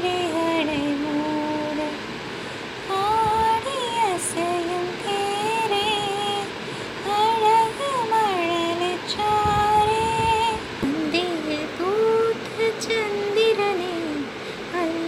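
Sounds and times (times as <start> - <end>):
woman singing a lullaby: 0.0 - 15.0.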